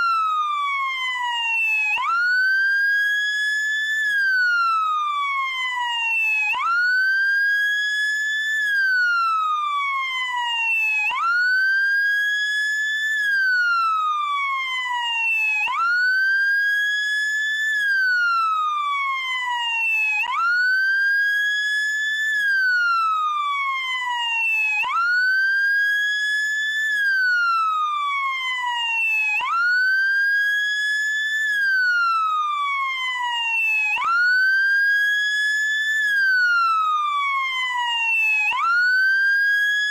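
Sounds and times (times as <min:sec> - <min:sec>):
wailing siren: 0:00.0 - 0:39.9.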